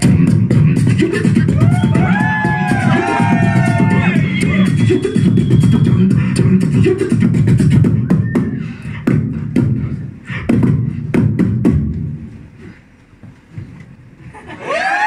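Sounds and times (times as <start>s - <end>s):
beatboxing: 0.0s - 13.0s.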